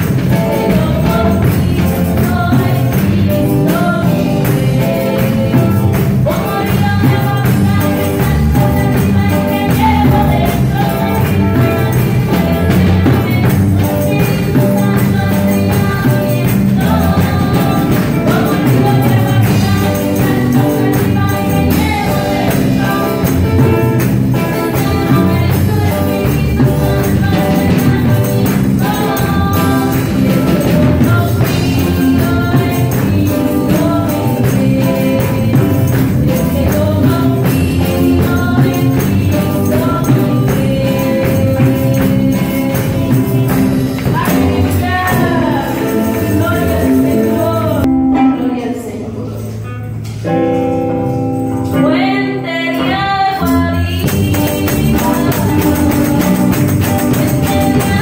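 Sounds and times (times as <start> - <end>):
voices singing: 0.0 - 49.3, 51.7 - 58.0
live band playing upbeat song: 0.0 - 58.0.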